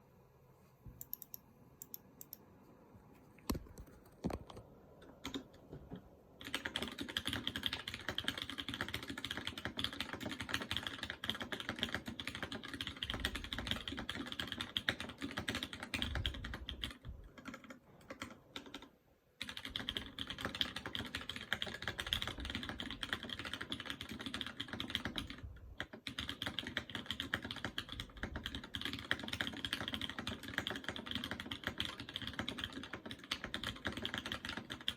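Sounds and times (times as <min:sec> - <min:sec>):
typing on mechanical keyboard: 0:03.5 - 0:05.6, 0:06.4 - 0:34.9.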